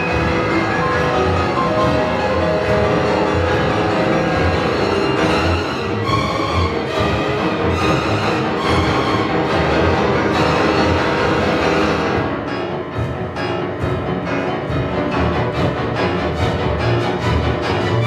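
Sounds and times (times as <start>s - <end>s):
bowed strings: 0.0s - 18.0s
piano: 0.0s - 18.0s.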